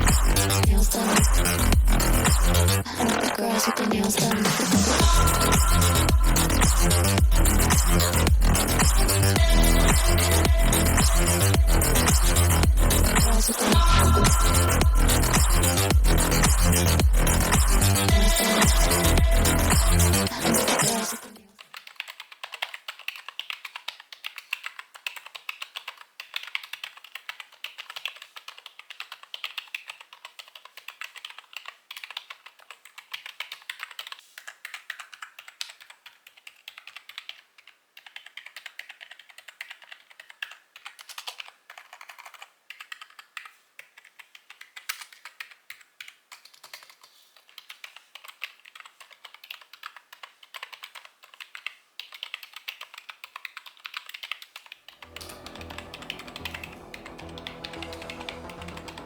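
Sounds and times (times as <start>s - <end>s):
fast keyboard typing: 4.5s - 59.0s.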